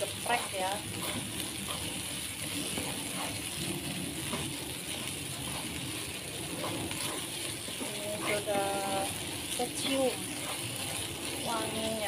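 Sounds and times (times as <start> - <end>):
paste sizzling in oil: 0.0 - 12.0
spatula scraping wok: 0.0 - 12.0.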